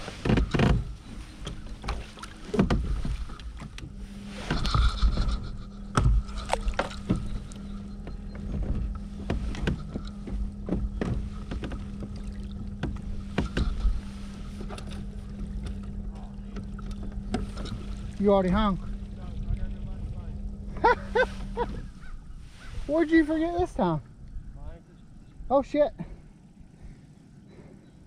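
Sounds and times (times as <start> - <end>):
paddle strokes in water: 0.0 - 24.0
steady low hum: 0.0 - 28.0.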